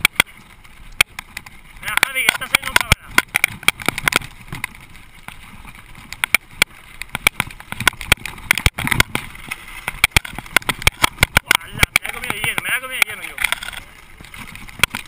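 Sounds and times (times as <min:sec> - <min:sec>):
mountain bike rattling on rocky trail: 0:00.0 - 0:15.0.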